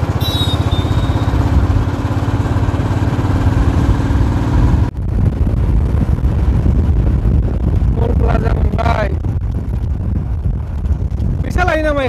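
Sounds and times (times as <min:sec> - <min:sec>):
motorcycle engine rumble: 0:00.0 - 0:11.6
road and wind hiss: 0:00.0 - 0:12.0.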